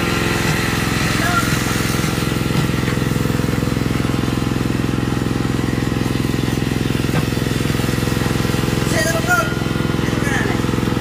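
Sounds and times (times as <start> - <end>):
rebar cutting machine engine: 0.0 - 11.0.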